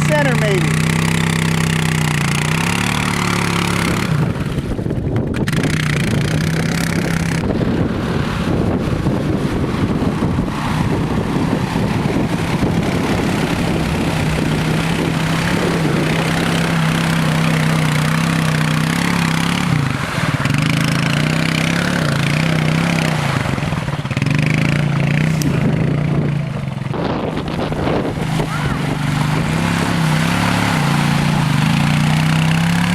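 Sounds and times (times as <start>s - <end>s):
quad engine running: 0.0s - 32.9s.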